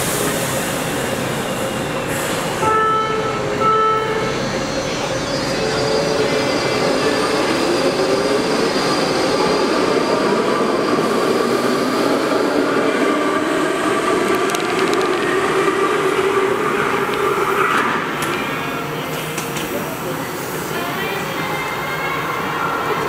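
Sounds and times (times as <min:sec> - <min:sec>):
train wheels on rails: 0:00.0 - 0:23.0
train motor whine rising: 0:00.6 - 0:20.0.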